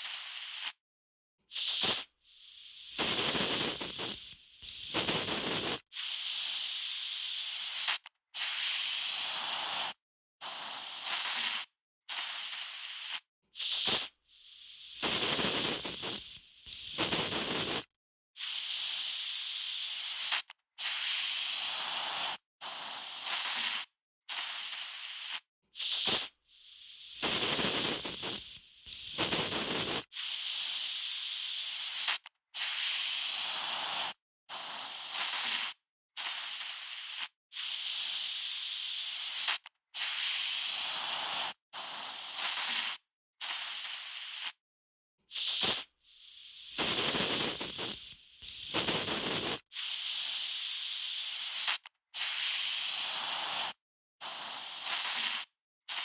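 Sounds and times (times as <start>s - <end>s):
aerosol spray can hissing: 0.0s - 0.8s, 1.5s - 44.6s, 45.3s - 56.0s.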